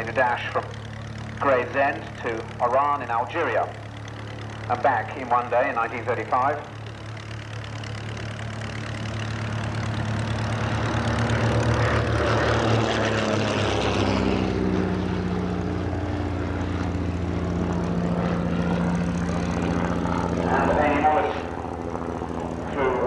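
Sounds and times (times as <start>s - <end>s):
propeller aircraft engine drone: 0.0s - 23.0s.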